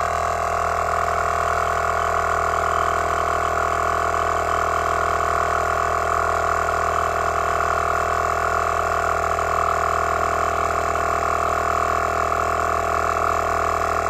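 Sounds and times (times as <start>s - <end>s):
portable air compressor running: 0.0s - 14.0s.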